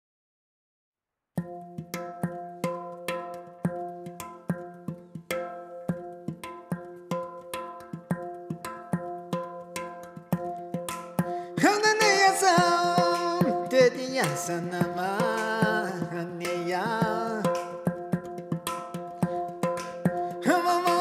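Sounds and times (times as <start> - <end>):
handpan melody: 1.4 - 21.0.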